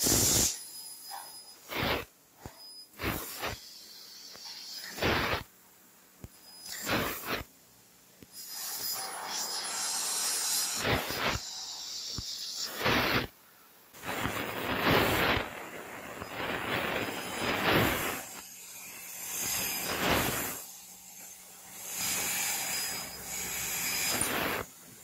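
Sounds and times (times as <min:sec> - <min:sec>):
laser cutter gas jet hissing: 0:00.0 - 0:05.5, 0:06.2 - 0:07.5, 0:08.2 - 0:25.0.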